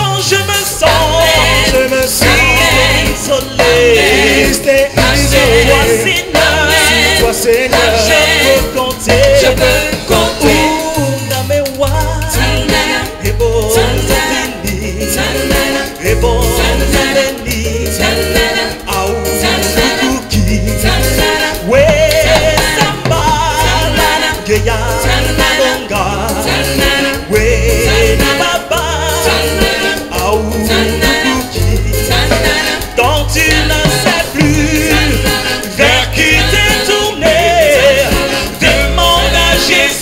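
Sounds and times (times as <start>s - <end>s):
band playing a song: 0.0s - 40.0s
lead and backing singers: 0.0s - 40.0s
pulsing bass line: 0.0s - 40.0s.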